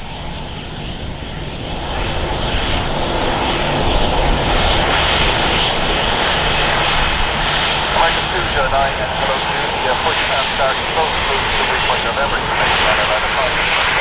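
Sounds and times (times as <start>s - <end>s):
jet engines taxiing: 0.0s - 14.0s.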